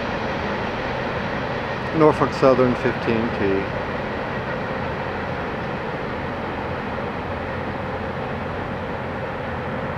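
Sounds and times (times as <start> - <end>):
freight train rumbling on track: 0.0 - 9.9.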